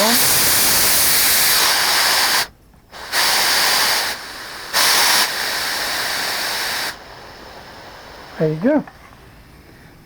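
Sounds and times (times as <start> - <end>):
compressed air hissing: 0.0 - 8.8.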